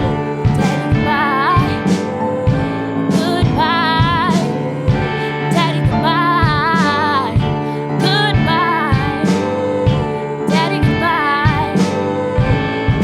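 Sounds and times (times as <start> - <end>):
guitar: 0.0 - 13.0
steady drum beat: 0.0 - 13.0
wordless sung melody: 0.0 - 13.0.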